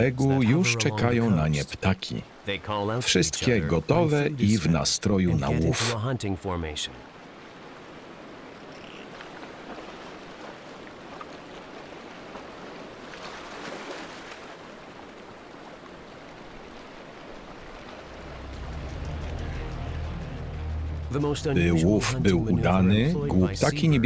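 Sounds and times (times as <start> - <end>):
sea surf washing: 0.0 - 24.0.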